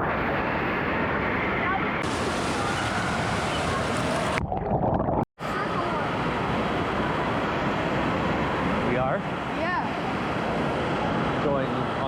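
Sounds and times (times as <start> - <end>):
rushing splashing water: 2.0 - 12.0.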